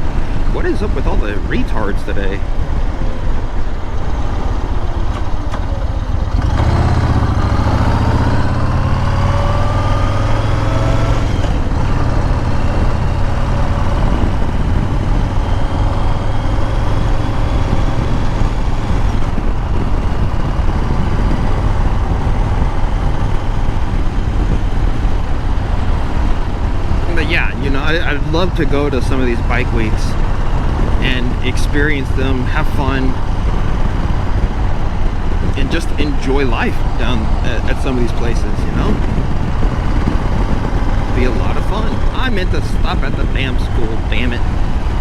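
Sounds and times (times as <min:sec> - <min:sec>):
motorcycle engine accelerating: 0:00.0 - 0:45.0
wind noise: 0:00.0 - 0:45.0.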